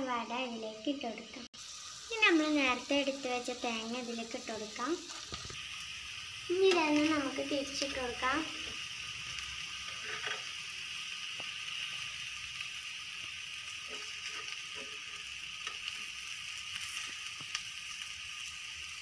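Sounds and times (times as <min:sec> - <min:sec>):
syrup sizzling in a frying pan: 0:00.0 - 0:19.0.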